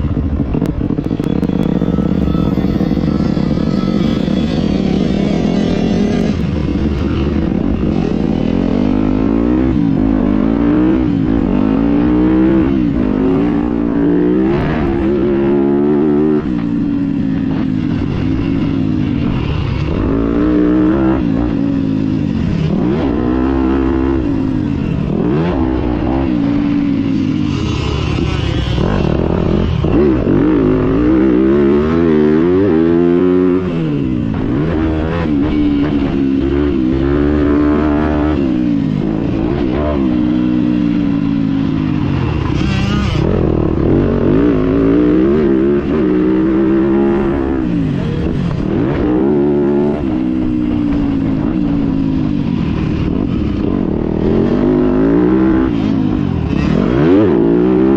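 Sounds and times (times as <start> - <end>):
motocross bike engine revving: 0.0 - 57.9.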